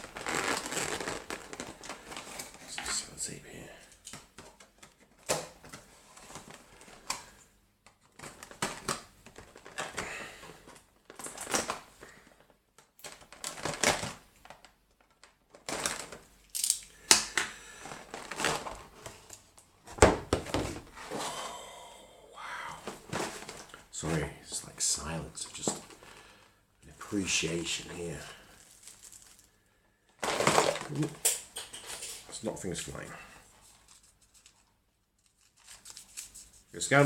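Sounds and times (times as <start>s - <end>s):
packaging crinkling and rustling: 0.0s - 21.2s, 22.8s - 26.4s, 27.0s - 29.6s, 30.2s - 37.0s.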